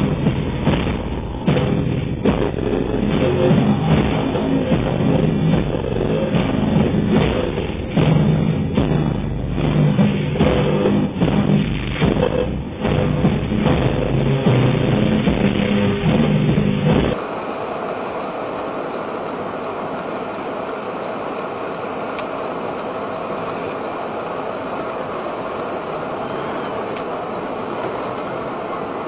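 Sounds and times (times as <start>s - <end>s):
faint steady hum: 0.0s - 29.0s
loud vehicle engine: 0.0s - 29.0s.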